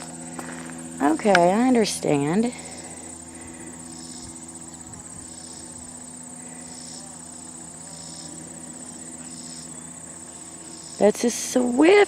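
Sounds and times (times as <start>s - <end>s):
crickets trilling: 0.0s - 12.0s
short cricket calls: 0.0s - 12.0s.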